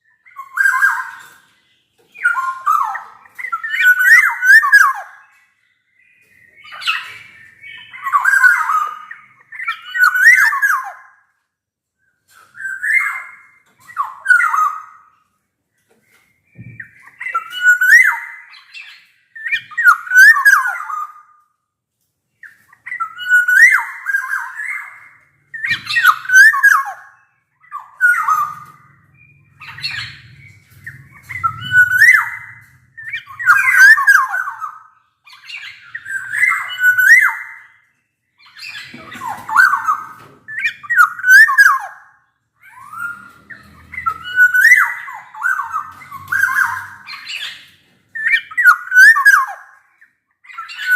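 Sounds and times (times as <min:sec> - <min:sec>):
oriole whistling song: 0:00.0 - 0:11.3, 0:12.0 - 0:15.3, 0:15.9 - 0:21.6, 0:22.3 - 0:50.9.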